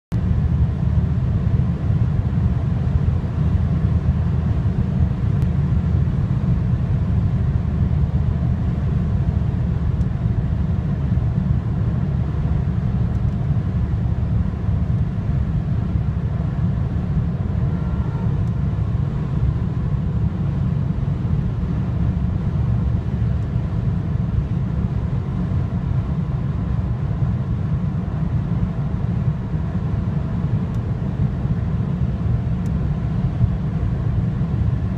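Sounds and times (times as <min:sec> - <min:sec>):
road and wind noise in car: 0:00.1 - 0:34.9.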